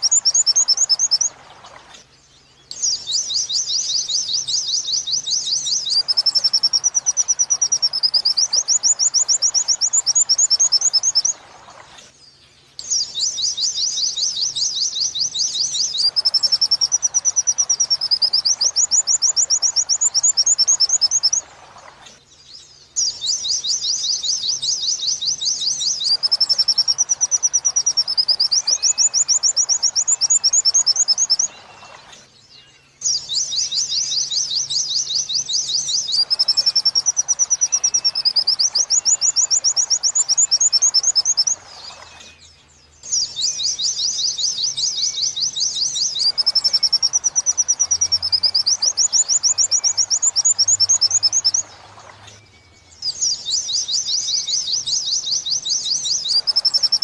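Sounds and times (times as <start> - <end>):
bird singing trilled notes: 0.0 - 57.0.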